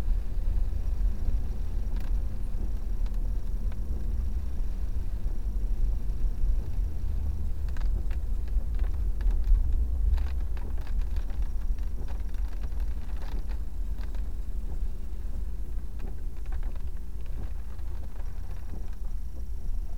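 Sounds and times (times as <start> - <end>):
car engine and tyres rumbling: 0.0 - 19.9.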